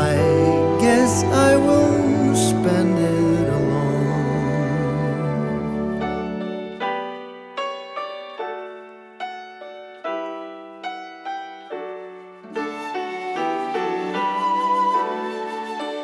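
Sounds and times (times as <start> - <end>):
fuller musical accompaniment: 0.0 - 16.0
piano chords: 0.0 - 16.0.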